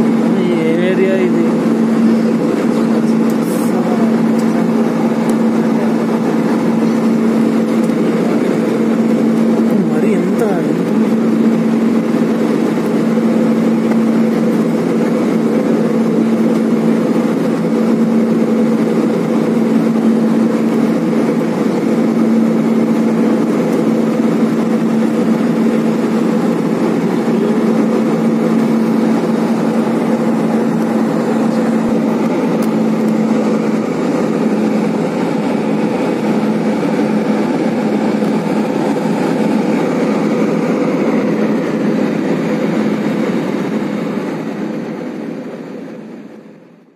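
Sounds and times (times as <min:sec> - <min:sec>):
airliner engine drone: 0:00.0 - 0:46.9.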